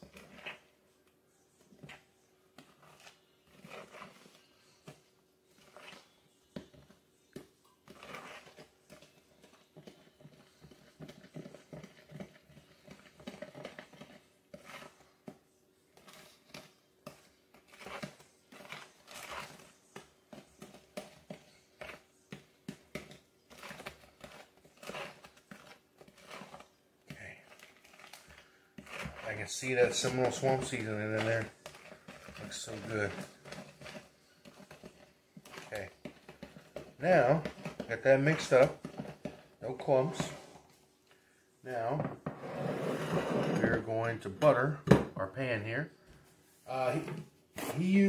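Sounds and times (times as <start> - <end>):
spoon scraping mixing bowl: 0.0 - 0.8, 1.5 - 40.8, 41.7 - 44.7.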